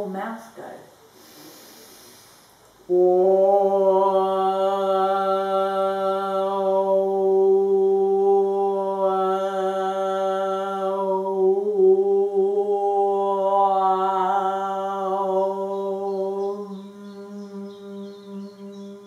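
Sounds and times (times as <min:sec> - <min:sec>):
woman chanting om: 0:02.9 - 0:19.0.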